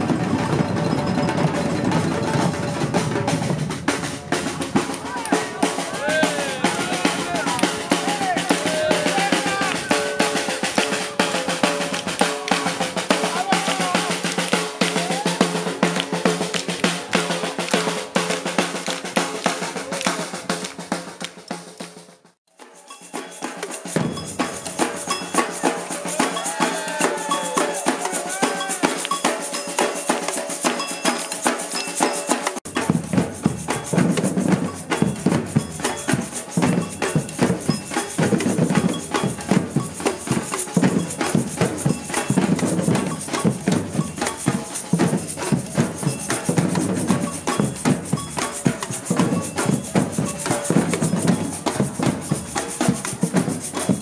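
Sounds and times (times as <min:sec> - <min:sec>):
samba drum group: 0:00.0 - 0:54.0.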